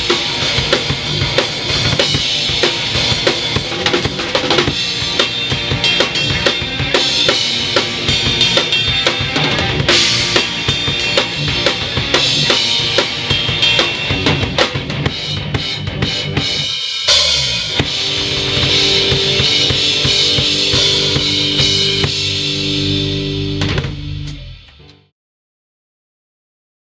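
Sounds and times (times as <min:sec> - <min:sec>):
drum kit: 0:00.0 - 0:25.1
rock band playing: 0:00.0 - 0:25.1.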